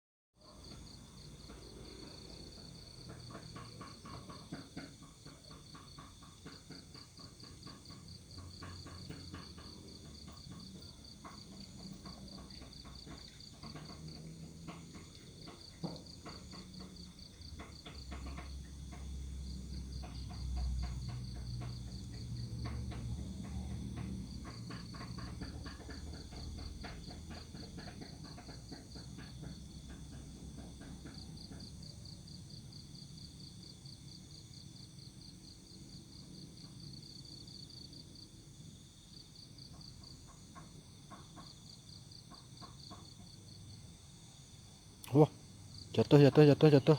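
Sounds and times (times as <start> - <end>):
insects chirping in a trill: 0.4 - 46.9.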